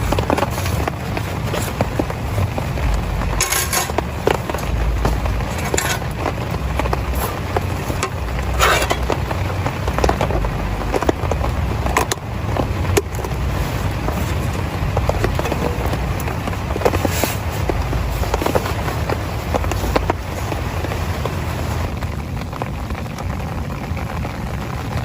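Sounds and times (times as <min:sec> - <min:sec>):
heavy rain on a tent: 0:00.0 - 0:25.0.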